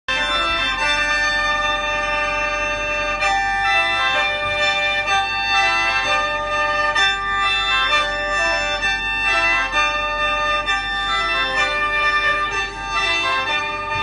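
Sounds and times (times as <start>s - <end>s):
mouth organ melody over drone: 0.1s - 14.0s.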